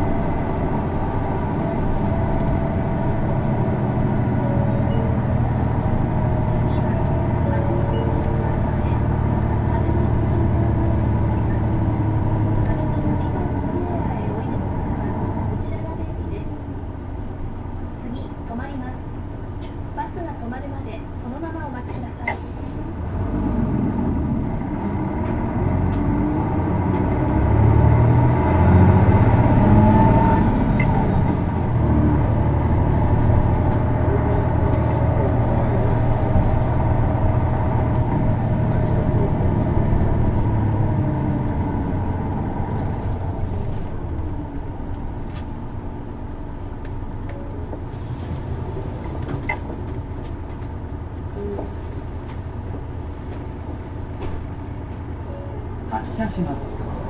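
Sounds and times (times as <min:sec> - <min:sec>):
bus diesel engine from inside: 0:00.0 - 0:57.0.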